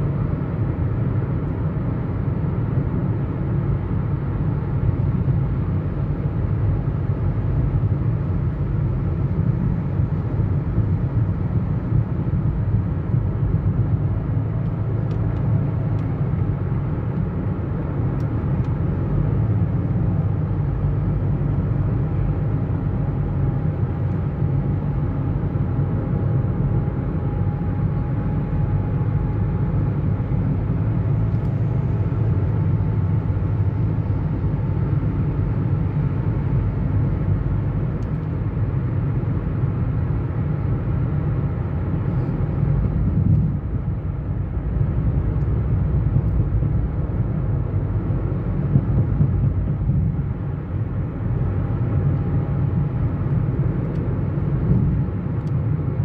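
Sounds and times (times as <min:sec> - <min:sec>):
car road noise: 0:00.0 - 0:56.0.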